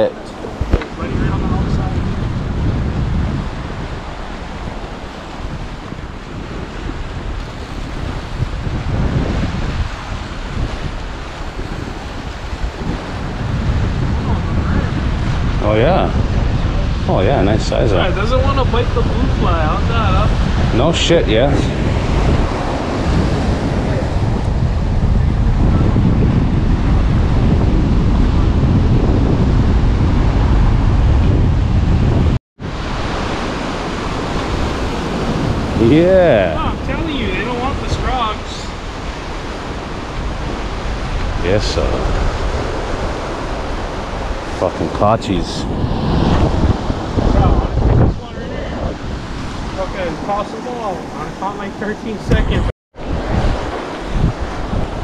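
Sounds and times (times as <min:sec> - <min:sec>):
ocean surf: 0:00.0 - 0:55.0
wind buffeting microphone: 0:00.0 - 0:55.0.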